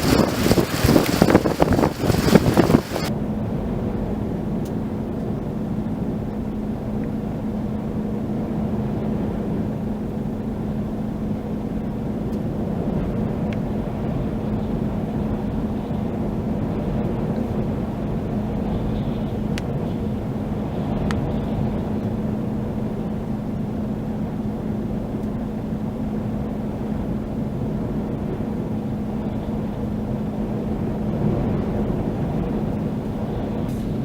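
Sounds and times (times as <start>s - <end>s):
low rumble with hum: 0.0s - 34.0s
wind buffeting microphone: 0.0s - 34.0s.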